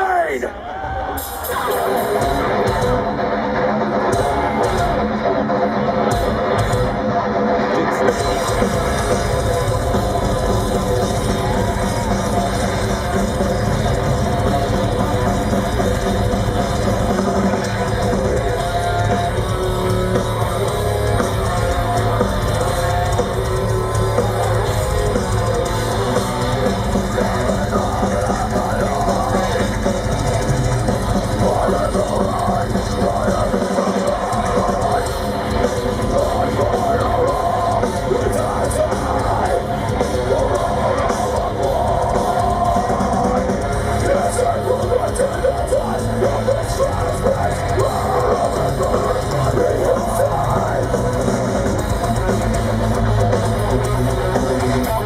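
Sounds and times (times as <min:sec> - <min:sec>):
heavy metal band playing live: 0:00.0 - 0:55.0.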